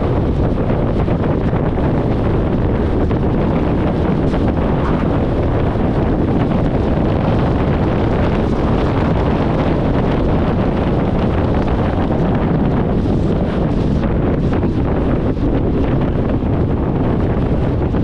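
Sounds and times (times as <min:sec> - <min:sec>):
road and tyre rumble: 0:00.0 - 0:18.0
wind buffeting microphone: 0:00.0 - 0:18.0.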